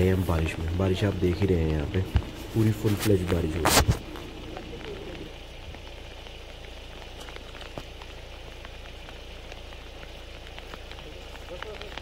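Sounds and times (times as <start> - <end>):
heavy rain falling: 0.0 - 12.0
raindrops tapping close by: 0.0 - 12.0.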